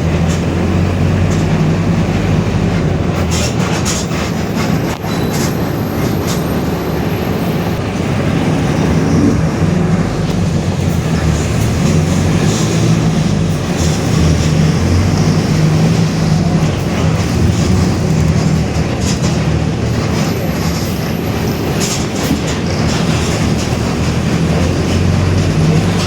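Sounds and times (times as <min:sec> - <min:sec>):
bus engine drone: 0:00.0 - 0:26.0
road and body rattle: 0:00.0 - 0:26.0.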